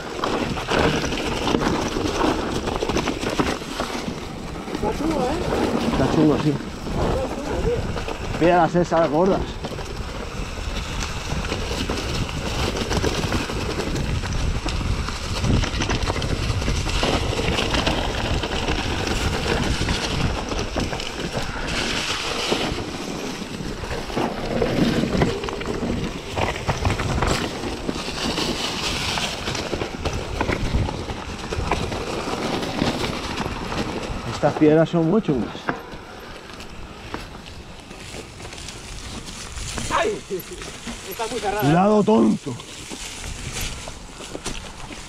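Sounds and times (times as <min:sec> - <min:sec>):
bike tyres on gravel: 0:00.0 - 0:45.0
wind buffeting microphone: 0:00.0 - 0:45.0.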